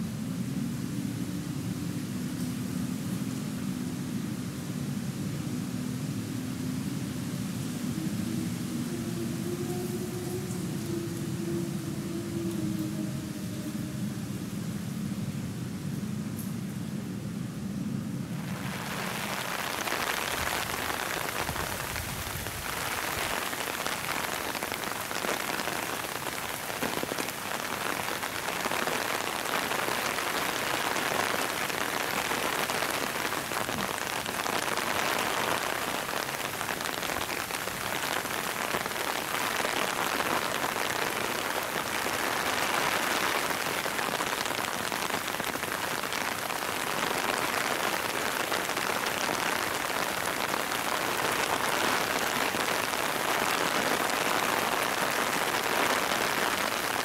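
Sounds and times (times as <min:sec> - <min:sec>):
rain on concrete: 0:00.0 - 0:57.0.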